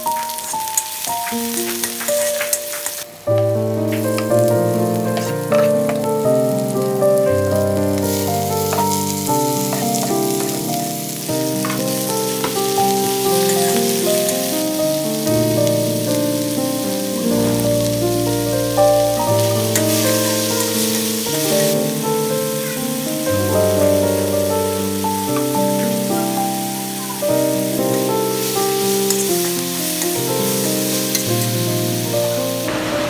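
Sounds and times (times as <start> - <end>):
vegetables sizzling in a wok: 0.0 - 33.0.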